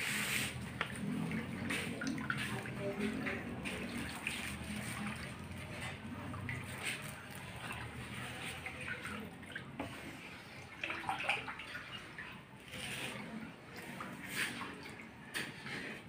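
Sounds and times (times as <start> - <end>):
spatula stirring wet mixture: 0.0 - 16.0.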